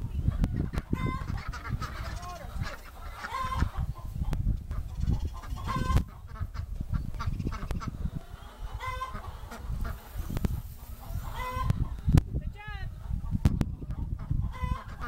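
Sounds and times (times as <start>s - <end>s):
chickens clucking: 0.0s - 15.0s
ducks quacking: 0.3s - 12.2s, 12.9s - 15.0s.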